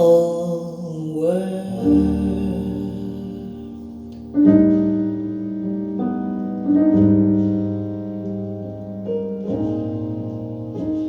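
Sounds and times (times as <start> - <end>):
piano playing sustained chords: 0.0 - 11.0.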